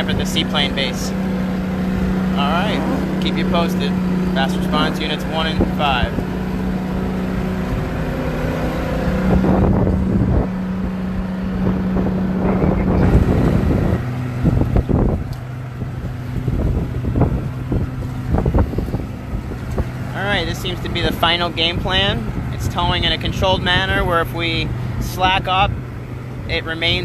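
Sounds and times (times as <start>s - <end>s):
boat engine running: 0.0s - 27.0s
wind buffeting microphone: 0.0s - 27.0s.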